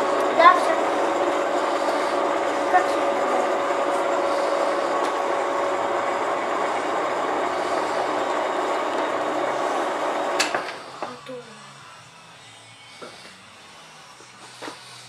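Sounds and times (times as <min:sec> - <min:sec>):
drill boring into steel: 0:00.0 - 0:15.0
lathe motor humming with whine: 0:00.0 - 0:15.0.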